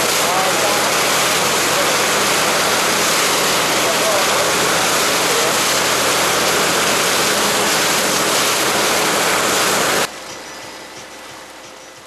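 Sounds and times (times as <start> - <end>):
water spray rushing off hull: 0.0 - 10.1
boat engine hum: 0.0 - 12.0.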